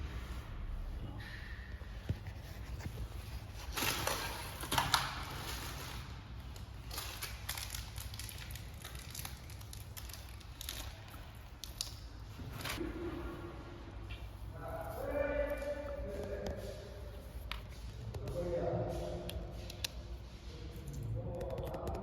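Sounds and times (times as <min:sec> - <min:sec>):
rustling and scraping: 0:00.0 - 0:21.1.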